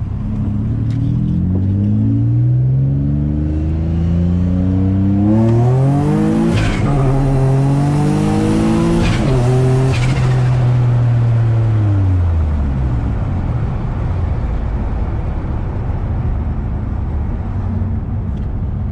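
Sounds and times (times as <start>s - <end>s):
car engine accelerating: 0.0s - 18.8s
road and wind noise: 0.0s - 18.9s.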